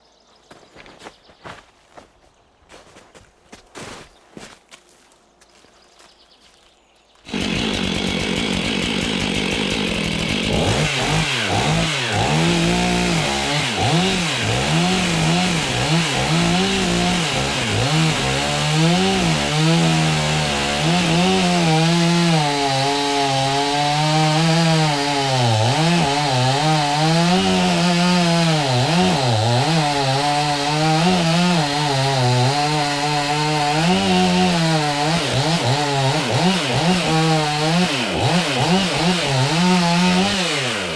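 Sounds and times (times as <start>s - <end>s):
chainsaw cutting wood: 7.2s - 40.9s.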